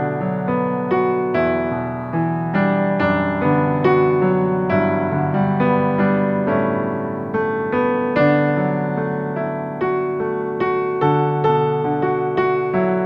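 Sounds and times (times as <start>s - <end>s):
solo piano playing hymn: 0.0s - 13.0s.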